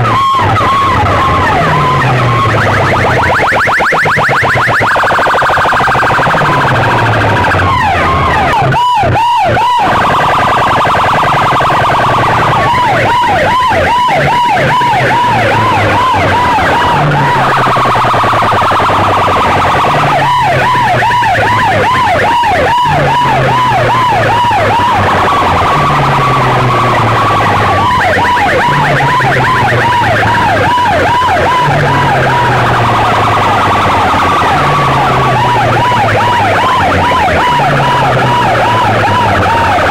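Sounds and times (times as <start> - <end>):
electronic siren warbling: 0.0 - 39.9.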